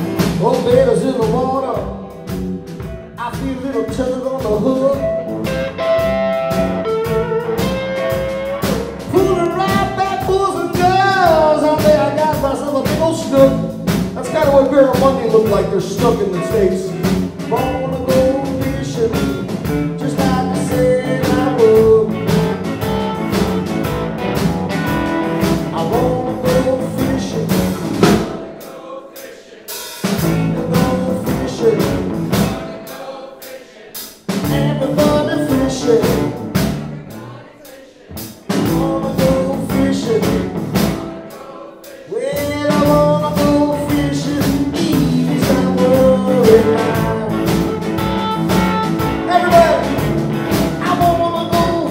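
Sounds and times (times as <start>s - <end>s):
electric blues band playing: 0.0s - 28.6s, 29.7s - 33.0s, 34.2s - 37.4s, 38.1s - 41.4s, 42.1s - 51.9s
person singing: 3.2s - 23.2s, 25.6s - 28.0s, 30.2s - 33.7s, 34.3s - 36.4s, 37.1s - 40.6s, 41.4s - 51.9s.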